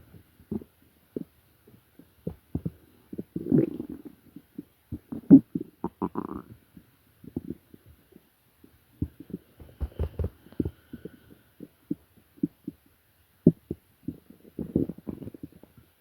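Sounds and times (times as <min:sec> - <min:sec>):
stomach gurgling: 0:00.4 - 0:15.9.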